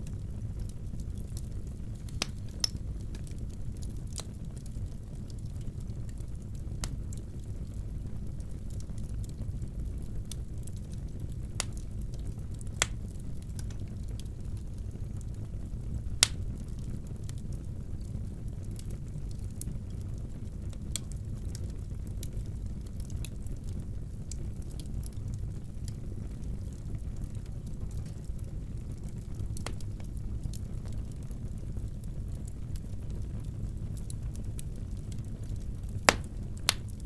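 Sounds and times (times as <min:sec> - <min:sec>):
fire crackling and popping: 0:00.0 - 0:37.0
fire low rumble: 0:00.0 - 0:37.0.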